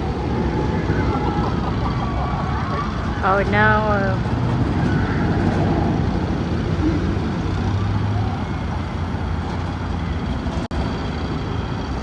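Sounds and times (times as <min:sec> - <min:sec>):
traffic noise: 0:00.0 - 0:12.0
vehicle engine running: 0:00.0 - 0:12.0.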